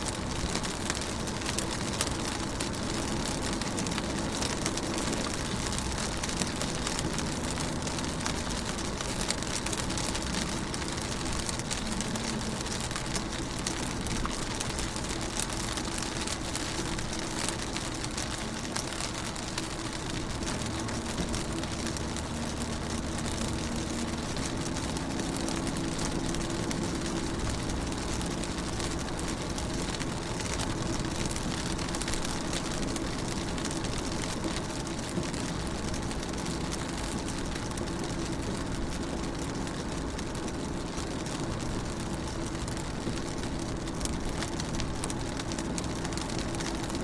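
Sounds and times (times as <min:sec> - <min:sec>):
low vehicle hum: 0:00.0 - 0:47.0
rain on car window: 0:00.0 - 0:47.0.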